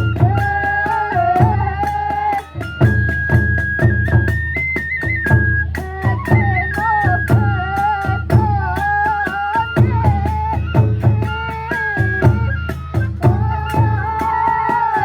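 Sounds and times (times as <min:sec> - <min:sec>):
bamboo flute melody: 0:00.0 - 0:15.0
drums beating: 0:00.0 - 0:15.0.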